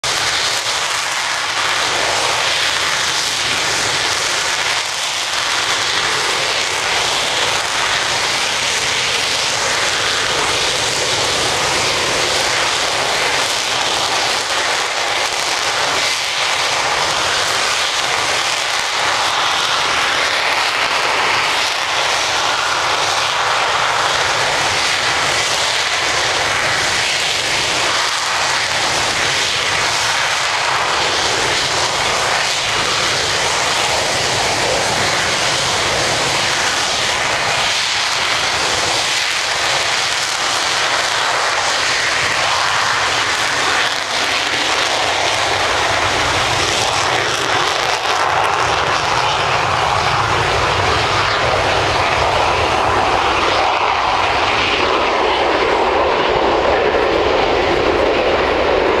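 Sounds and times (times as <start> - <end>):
distant jet engines running: 0.0 - 59.0.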